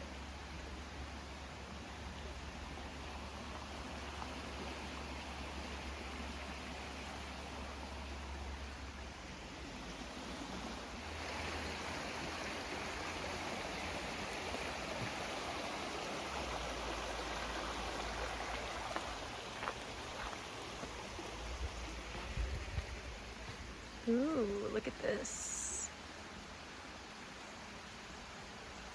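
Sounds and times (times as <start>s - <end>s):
creek rushing: 0.0s - 28.9s
wind rumbling on microphone: 0.2s - 24.1s.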